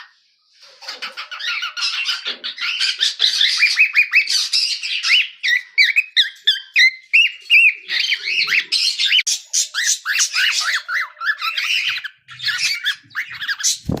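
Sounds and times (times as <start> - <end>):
cockatiel chirping and warbling: 0.7 - 14.0.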